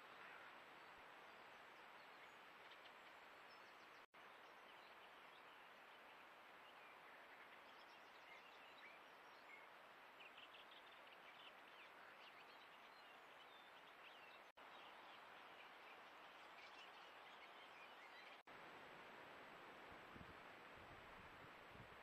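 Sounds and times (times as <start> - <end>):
faint microphone hiss: 0.0 - 22.0
small birds chirping: 0.1 - 18.5.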